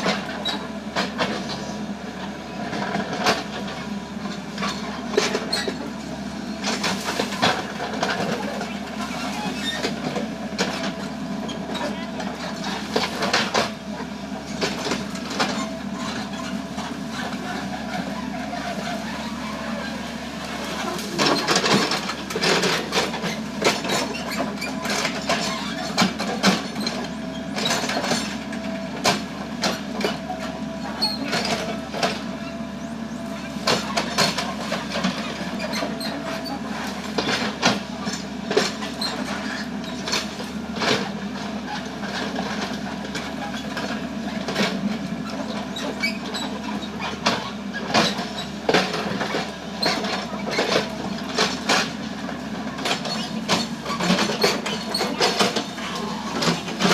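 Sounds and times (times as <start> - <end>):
excavator diesel engine whining: 0.0 - 56.9.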